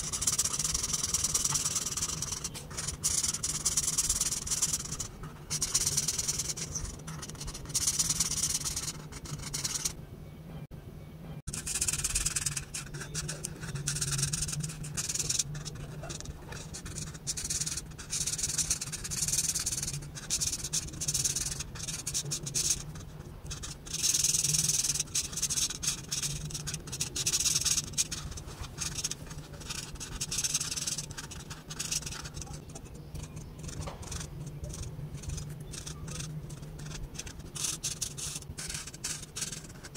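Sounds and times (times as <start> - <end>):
marker scratching on paper: 0.0 - 10.0, 11.5 - 39.9.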